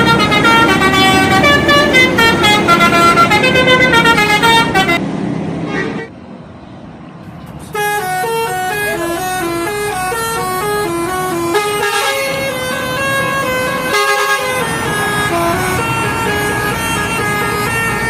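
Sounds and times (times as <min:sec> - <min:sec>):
bus air horn playing a tune: 0:00.0 - 0:05.0, 0:07.7 - 0:18.0.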